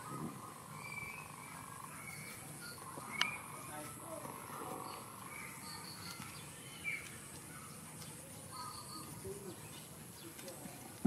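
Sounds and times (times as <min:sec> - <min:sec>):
steady high-pitched hum: 0:00.0 - 0:10.2
bird chirps: 0:00.0 - 0:10.6.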